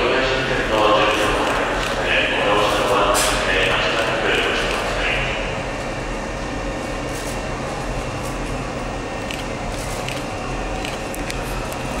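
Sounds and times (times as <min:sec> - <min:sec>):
train equipment hum and whir: 0:00.0 - 0:12.0.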